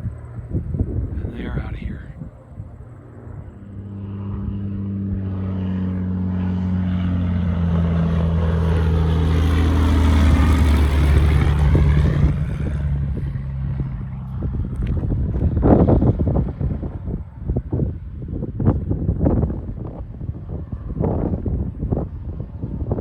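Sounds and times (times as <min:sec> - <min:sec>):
propeller plane passing by: 0:00.0 - 0:23.0.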